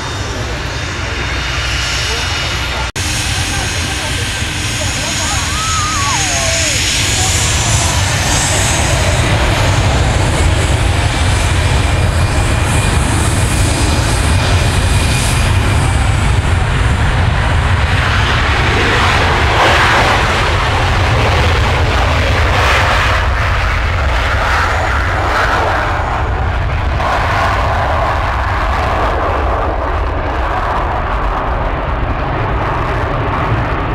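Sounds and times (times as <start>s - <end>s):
jet engines at take-off power: 0.0s - 33.9s.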